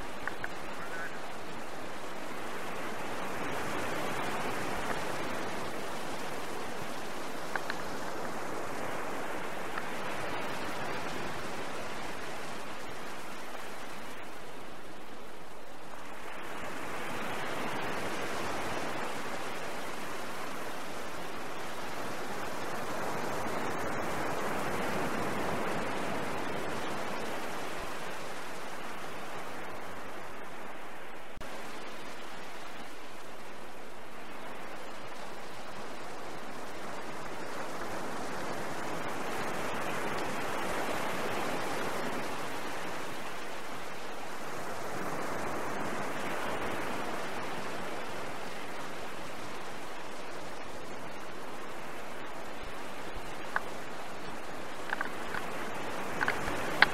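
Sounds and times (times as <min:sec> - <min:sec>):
small waves washing onto sand: 0:00.0 - 0:56.9.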